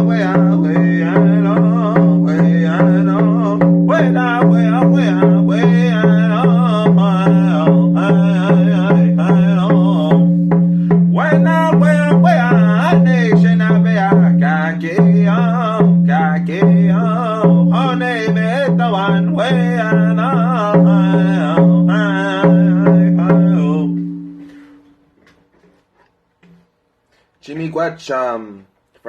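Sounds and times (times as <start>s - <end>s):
powwow-style singing: 0.0s - 24.6s
hand drum beating: 0.0s - 24.8s.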